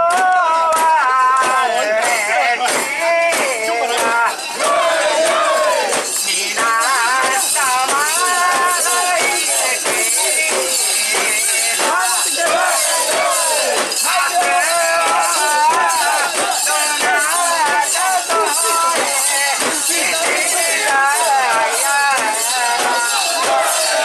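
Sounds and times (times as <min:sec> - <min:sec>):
rhythmic metallic clinking: 0:00.0 - 0:24.0
voices singing a chant: 0:00.0 - 0:24.0.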